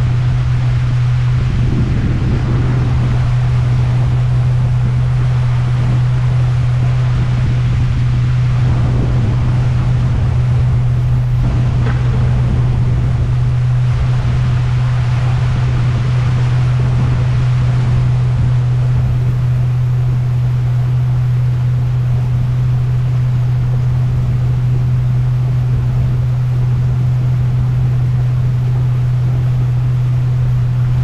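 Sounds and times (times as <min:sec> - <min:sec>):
boat motor running: 0:00.0 - 0:31.0
rushing water and wind: 0:00.0 - 0:31.0.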